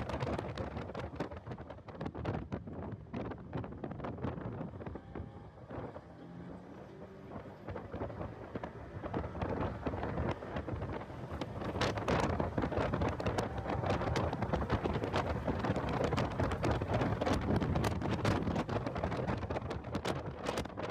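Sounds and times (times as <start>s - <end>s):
car engine: 0.0s - 20.9s
road noise: 0.0s - 20.9s
wind buffeting microphone: 0.0s - 20.9s.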